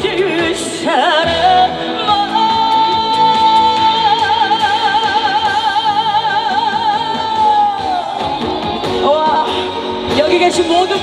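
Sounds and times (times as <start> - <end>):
live band backing: 0.0 - 11.0.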